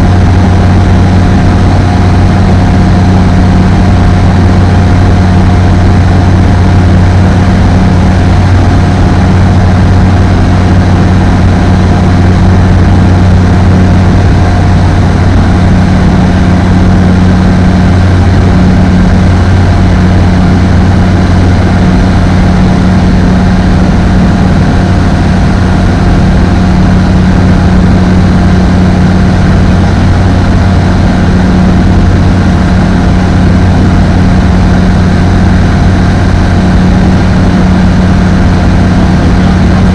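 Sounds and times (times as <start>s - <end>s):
ultralight aircraft engine drone: 0.0s - 39.9s.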